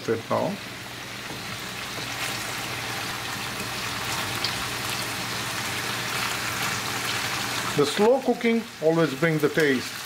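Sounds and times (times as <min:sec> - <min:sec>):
range hood fan humming: 0:00.0 - 0:10.0
food sizzling in a frying pan: 0:00.5 - 0:10.0.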